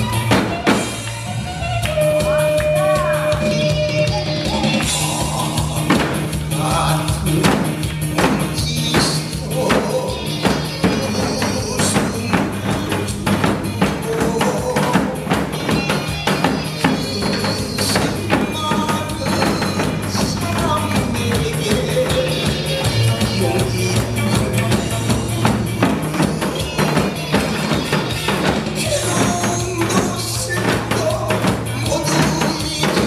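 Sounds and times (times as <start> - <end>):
backing music: 0.0 - 33.0.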